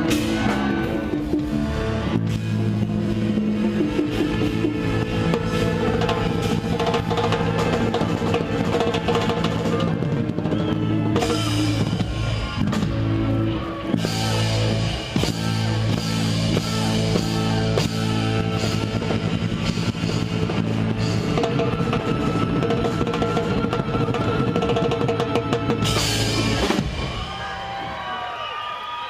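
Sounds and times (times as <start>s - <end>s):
live rock band playing: 0.0s - 28.1s.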